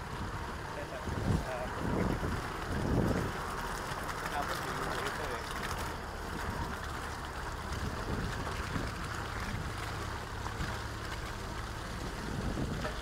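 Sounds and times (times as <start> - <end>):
tyre and road noise: 0.0 - 13.0
vehicle engine rumble: 0.0 - 13.0.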